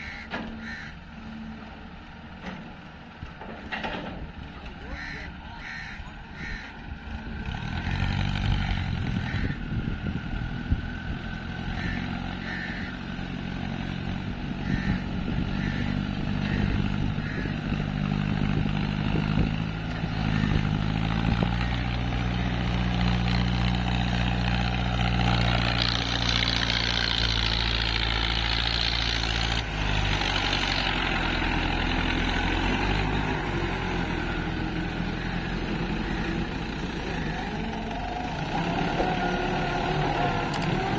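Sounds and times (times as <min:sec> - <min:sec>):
heavy diesel engine under load: 0:00.0 - 0:40.9.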